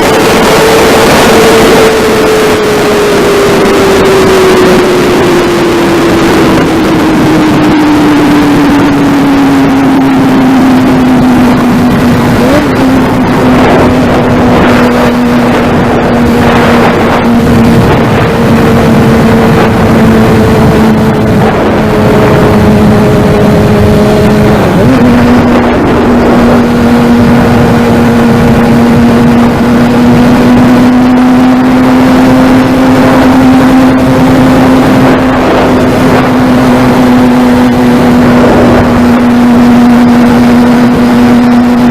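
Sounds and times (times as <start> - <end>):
motorcycle engine at high revs: 0.0 - 41.9
wind rushing over microphone: 0.0 - 41.9.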